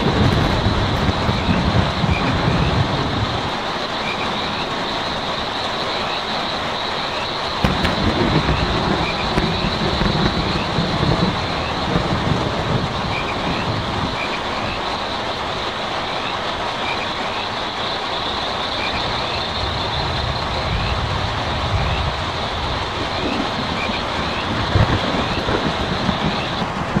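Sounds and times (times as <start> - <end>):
rain drumming on a tin roof: 0.0 - 27.0.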